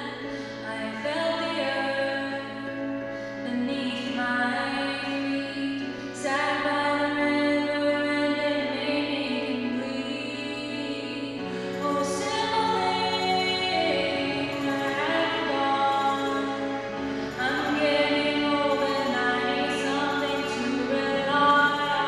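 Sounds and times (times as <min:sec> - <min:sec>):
low sustained accompaniment: 0:00.0 - 0:22.0
woman singing: 0:00.0 - 0:22.0.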